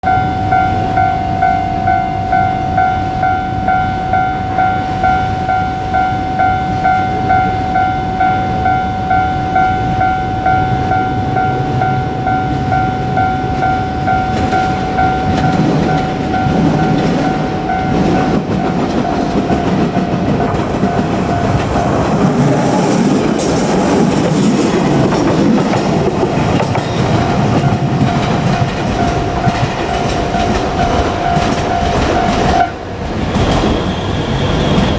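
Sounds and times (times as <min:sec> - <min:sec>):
level-crossing warning bell: 0:00.0 - 0:34.9
train wheels rumbling and clattering: 0:00.2 - 0:34.9.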